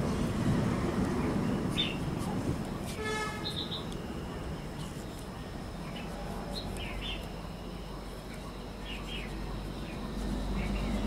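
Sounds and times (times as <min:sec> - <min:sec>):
small birds chirping: 0:01.0 - 0:11.0.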